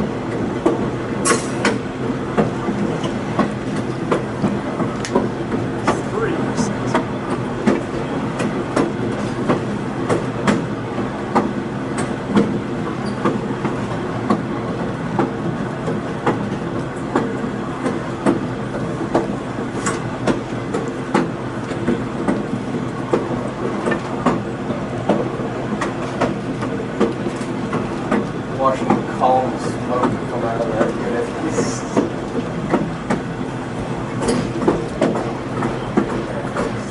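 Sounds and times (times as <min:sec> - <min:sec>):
train wheels rumbling on rails: 0:00.0 - 0:36.9
clicks and knocks of track: 0:00.3 - 0:33.4, 0:34.1 - 0:36.9.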